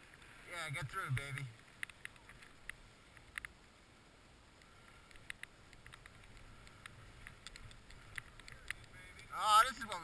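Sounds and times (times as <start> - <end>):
light ticks: 0.0 - 3.6, 4.5 - 10.0.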